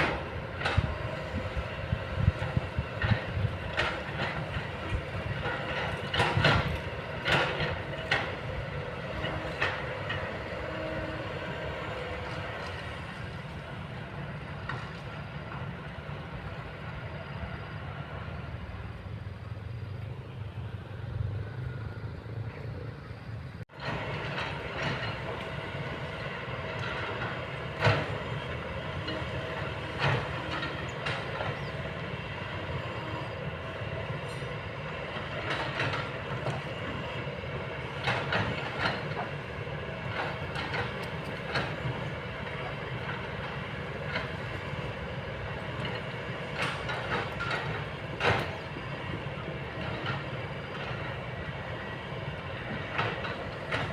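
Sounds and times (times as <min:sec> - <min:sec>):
excavator engine and hydraulics: 0:00.0 - 0:53.9.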